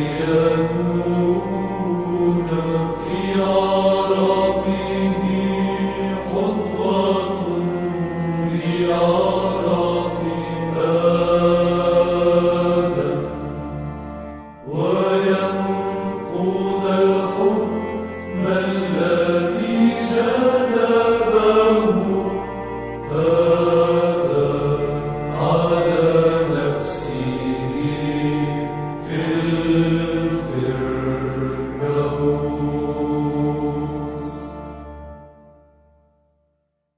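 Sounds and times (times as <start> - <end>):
low held vocal drone: 0.0 - 13.9, 14.6 - 34.6
person chanting a hymn: 0.0 - 35.4.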